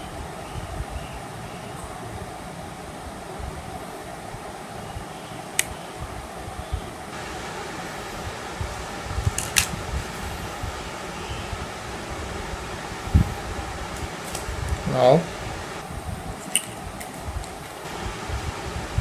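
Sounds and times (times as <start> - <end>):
fan whirring: 0.0 - 19.0.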